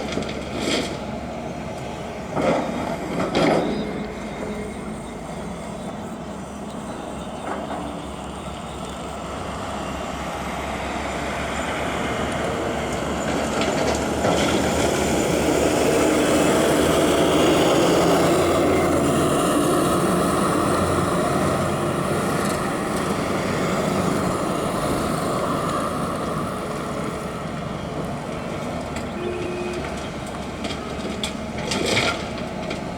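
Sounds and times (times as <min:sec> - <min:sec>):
backhoe diesel engine working: 0:00.0 - 0:32.9.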